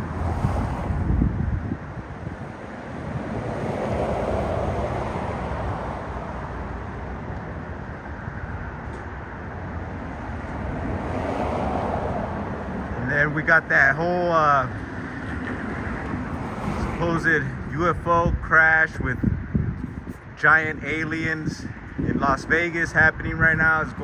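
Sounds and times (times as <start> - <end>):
passing vehicles rumble: 0.0 - 24.0
wind buffeting microphone: 0.0 - 24.0.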